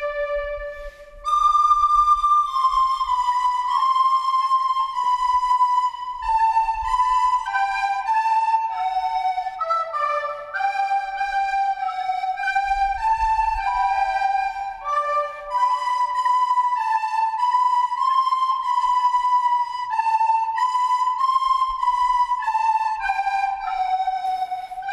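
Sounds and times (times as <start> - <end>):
flutes playing a melody: 0.0 - 24.9.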